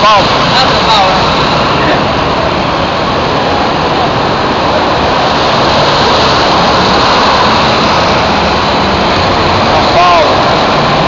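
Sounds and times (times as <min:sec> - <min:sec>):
buses and car passing: 0:00.0 - 0:11.0
engine and tyre noise: 0:00.0 - 0:11.0.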